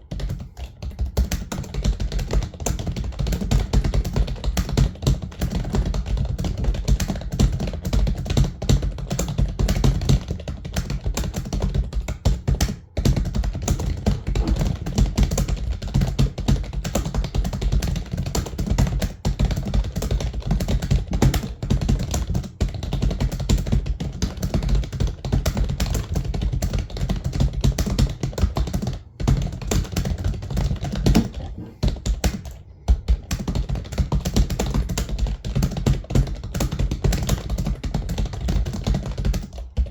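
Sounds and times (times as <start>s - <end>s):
fast typing on computer keyboard: 0.0s - 39.9s.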